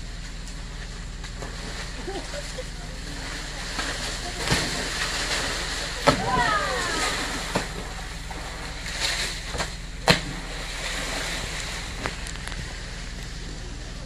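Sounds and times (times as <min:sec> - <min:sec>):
lapping water: 0:01.3 - 0:14.0
body splashing into water: 0:01.4 - 0:12.7.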